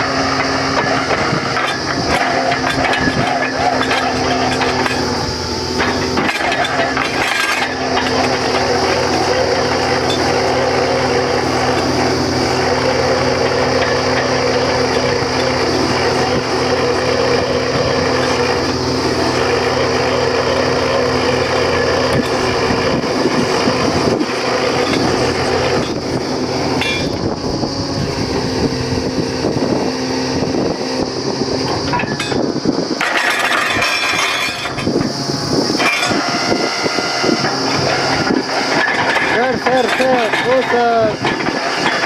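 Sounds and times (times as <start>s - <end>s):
drilling rig engine running: 0.0s - 42.0s.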